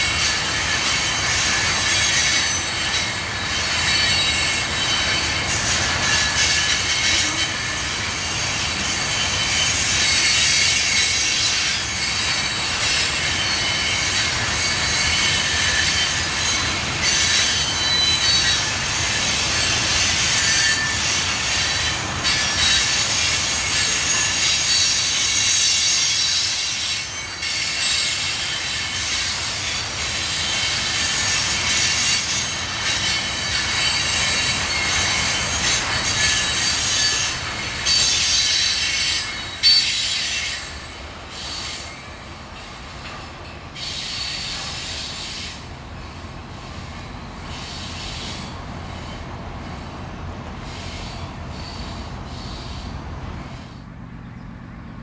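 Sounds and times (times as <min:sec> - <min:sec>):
high-pitched wheel squeal: 0:00.0 - 0:45.7, 0:46.7 - 0:53.8
train wheels rumbling: 0:00.0 - 0:55.0.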